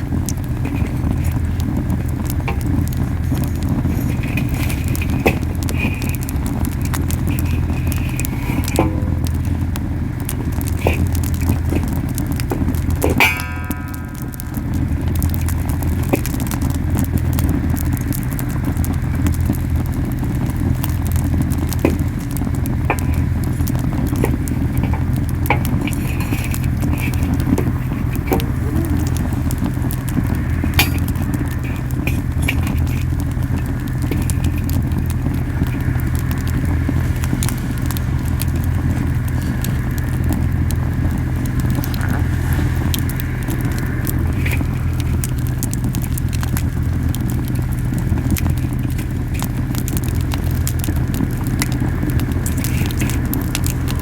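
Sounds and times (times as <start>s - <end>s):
burning wood crackling and popping: 0.0s - 54.0s
campfire roaring: 0.0s - 54.0s.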